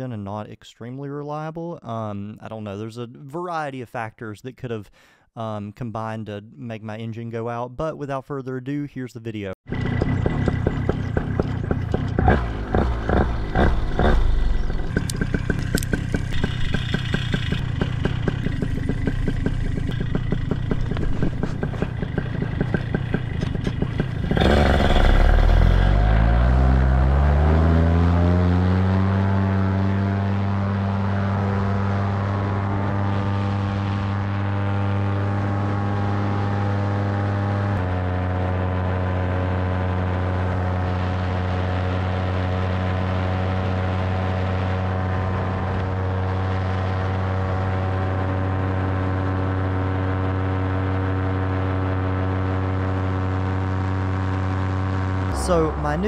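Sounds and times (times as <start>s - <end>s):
two-stroke paramotor engine: 9.6s - 56.0s.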